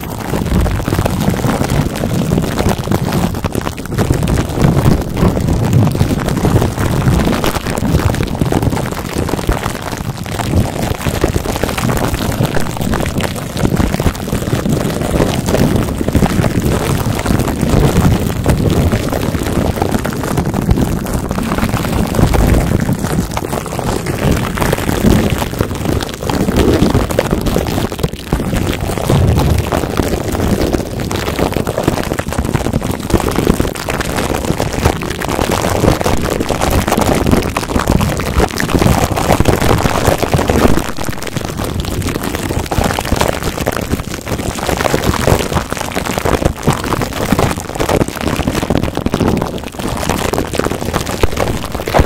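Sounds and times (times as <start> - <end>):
microphone handling rumble: 0.0 - 52.0
plastic wrap crinkling on microphone: 0.0 - 52.0.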